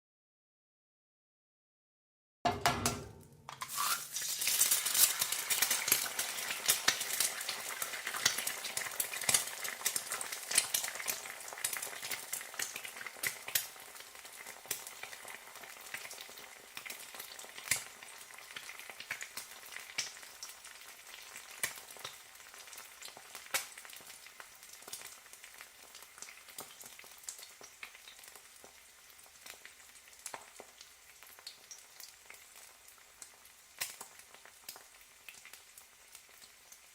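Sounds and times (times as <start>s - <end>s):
egg sizzling in a pan: 3.4s - 36.9s.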